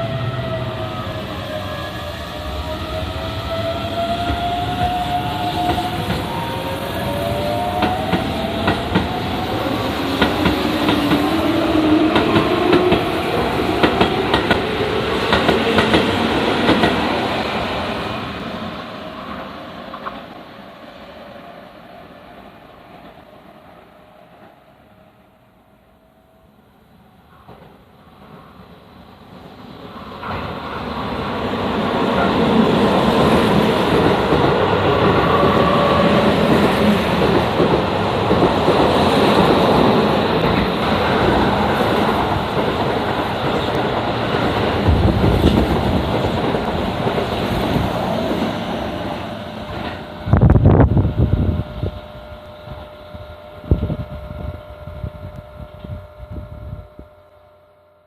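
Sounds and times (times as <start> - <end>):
electric train rolling past: 0.0 - 58.0.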